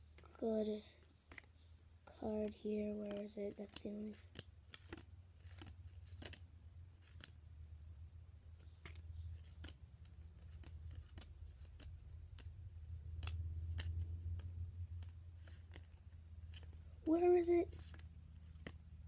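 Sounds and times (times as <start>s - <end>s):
steady low hum: 0.0s - 19.0s
cards clicking and snapping: 1.0s - 1.6s, 2.3s - 7.4s, 8.6s - 16.8s, 17.7s - 19.0s.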